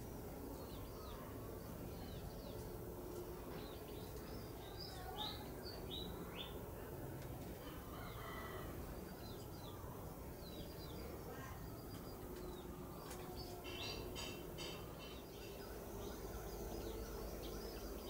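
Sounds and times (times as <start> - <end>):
birds chirping: 0.0 - 6.8, 7.6 - 18.0
low background hiss: 0.0 - 18.0.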